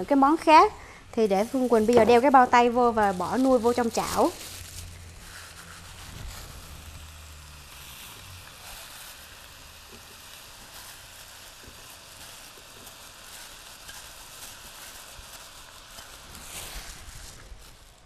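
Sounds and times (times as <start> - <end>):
vegetables sizzling in frying pan: 0.0 - 18.0.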